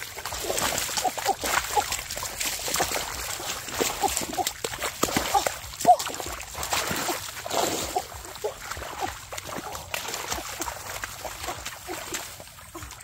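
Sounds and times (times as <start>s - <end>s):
splashing in shallow muddy water: 0.0s - 13.0s.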